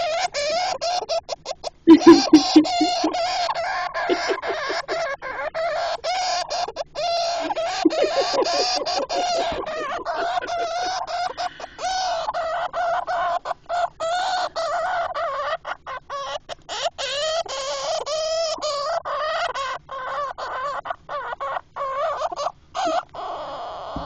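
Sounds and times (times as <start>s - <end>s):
hamster squeaky calls: 0.0s - 24.0s.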